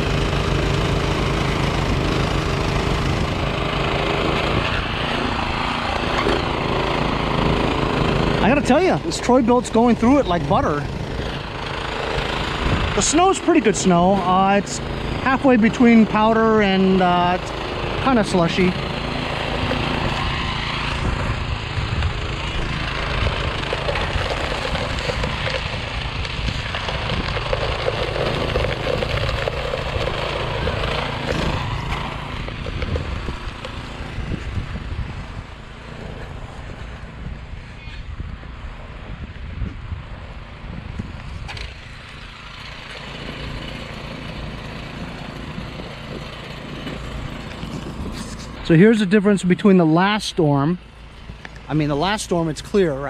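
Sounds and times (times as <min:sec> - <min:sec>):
snowblower engine running: 0:00.0 - 0:53.0.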